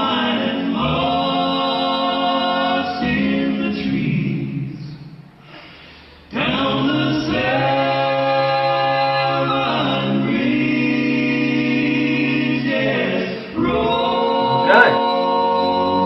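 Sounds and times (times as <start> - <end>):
male vocal group singing harmony: 0.0 - 4.9, 6.3 - 16.0.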